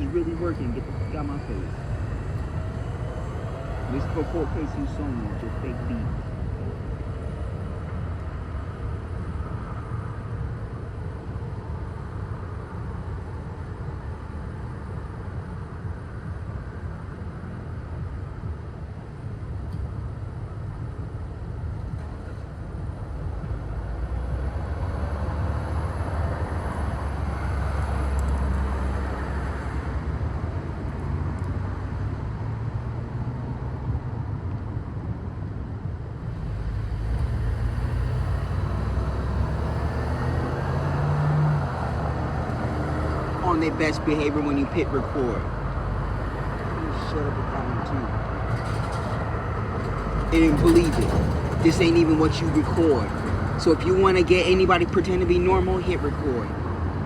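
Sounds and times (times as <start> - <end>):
vehicle rumble with road noise: 0.0 - 57.0.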